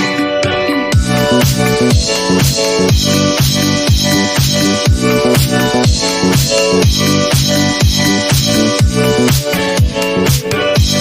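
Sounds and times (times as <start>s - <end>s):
electronic dance music: 0.0s - 11.0s
deep kick drum: 1.0s - 10.0s.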